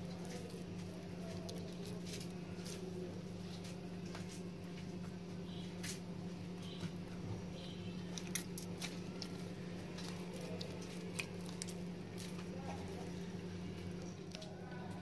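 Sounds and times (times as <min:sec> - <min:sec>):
dough squishing: 0:00.0 - 0:15.0.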